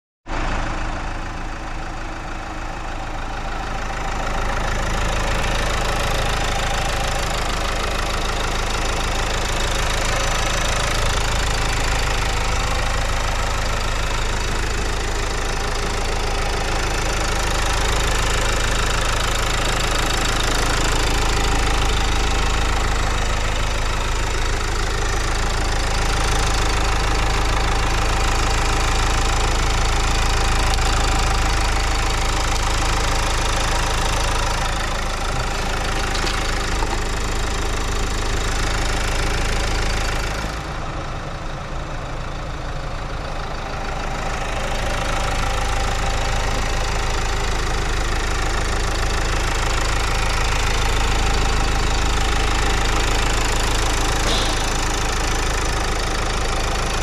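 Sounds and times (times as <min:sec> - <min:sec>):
diesel engine idling: 0:00.2 - 0:57.0.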